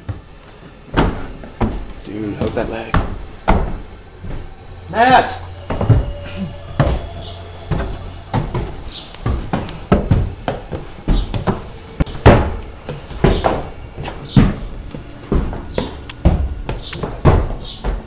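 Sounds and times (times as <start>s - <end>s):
footsteps on wooden stairs: 0.0s - 18.0s.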